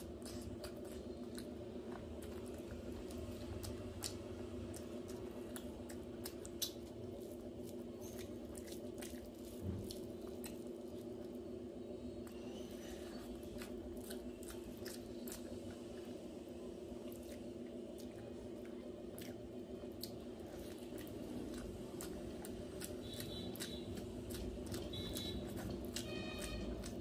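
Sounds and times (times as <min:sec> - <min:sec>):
chewing and wet mouth clicks: 0:00.0 - 0:11.3, 0:13.3 - 0:16.1, 0:17.0 - 0:27.0
steady low hum: 0:00.0 - 0:27.0.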